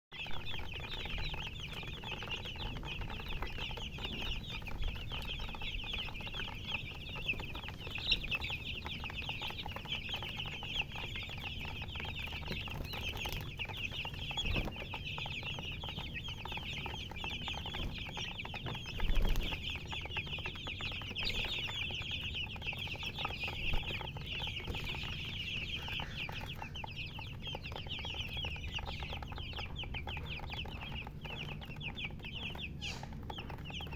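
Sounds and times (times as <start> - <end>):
baby chicks peeping: 0.1 - 33.9.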